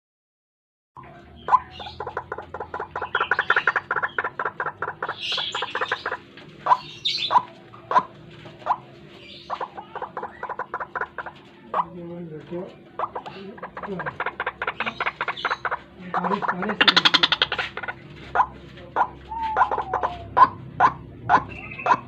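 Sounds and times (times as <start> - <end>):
waterhen croaking calls: 1.0 - 12.0, 12.9 - 22.0.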